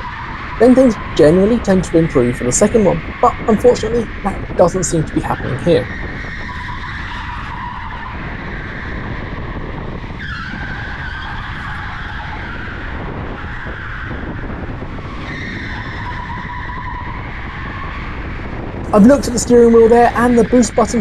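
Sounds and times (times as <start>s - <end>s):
tyre and wind rumble: 0.0s - 21.0s.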